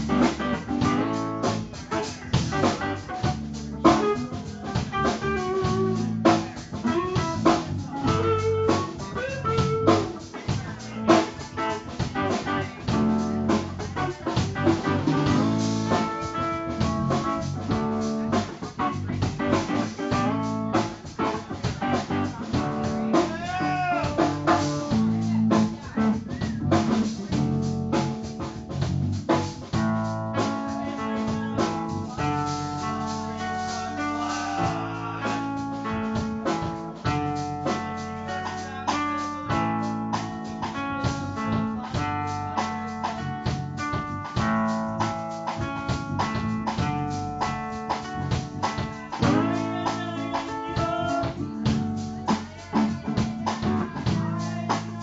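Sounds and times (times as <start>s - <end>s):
drum kit hits: 0.0s - 55.0s
electric guitar: 0.0s - 55.0s.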